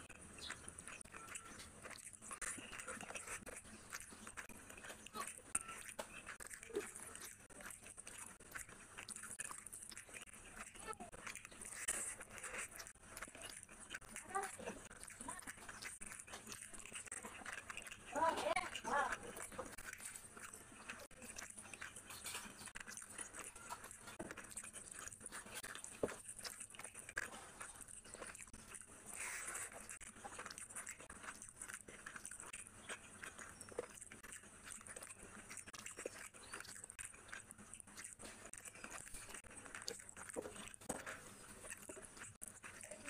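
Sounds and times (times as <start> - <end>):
chewing and wet mouth smacking: 0.0 - 43.0.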